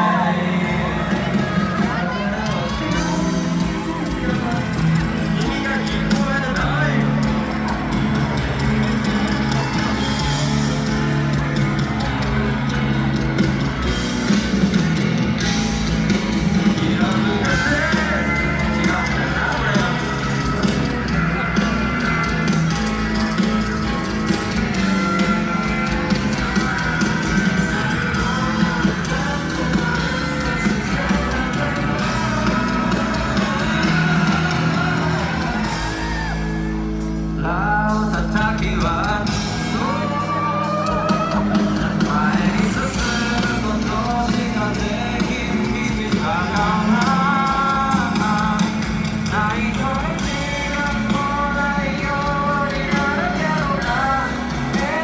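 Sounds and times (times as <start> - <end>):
person singing: 0.0 - 13.4, 16.1 - 36.7, 37.4 - 55.0
live pop-rock band with guitar: 0.0 - 55.0.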